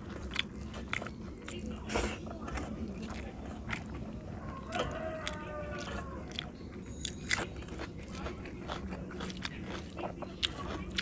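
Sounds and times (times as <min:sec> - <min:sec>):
wet chewing and smacking: 0:00.0 - 0:11.0.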